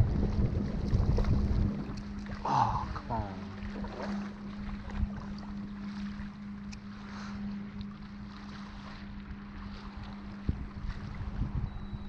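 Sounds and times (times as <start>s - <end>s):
wind on microphone: 0.0s - 6.0s, 7.4s - 12.0s
boat motor humming: 0.0s - 12.0s.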